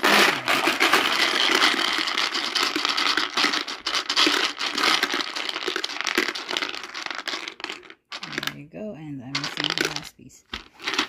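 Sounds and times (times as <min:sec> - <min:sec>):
letter cubes rattling in plastic dome: 0:00.0 - 0:11.0.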